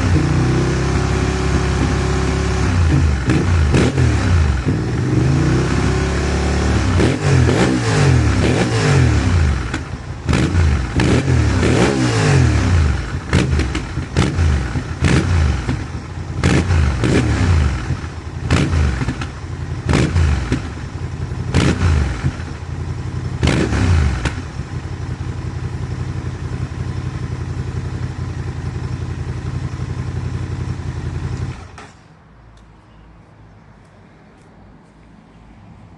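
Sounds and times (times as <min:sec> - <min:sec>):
motorcycle engine revving and idling: 0:00.0 - 0:31.9.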